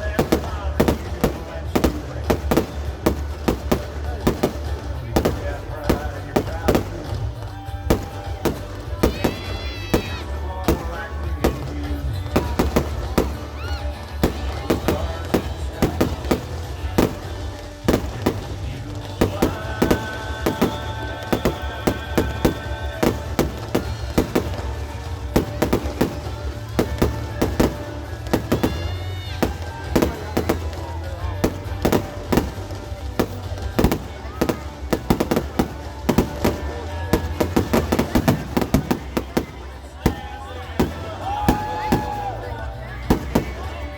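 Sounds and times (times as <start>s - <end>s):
fireworks bangs and pops: 0.0s - 43.9s.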